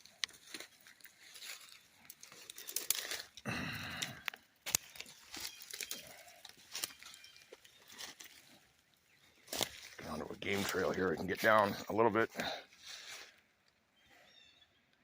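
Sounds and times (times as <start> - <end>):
crackling footsteps in brush: 0.0 - 13.8
twigs scraping against clothing: 0.0 - 13.8.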